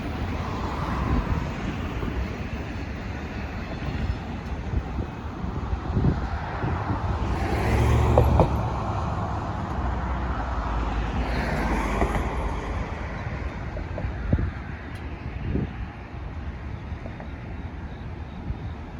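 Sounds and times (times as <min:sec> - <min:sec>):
low rumble of passing vehicles: 0:00.0 - 0:18.9
rushing noise of vehicles passing: 0:00.0 - 0:18.9.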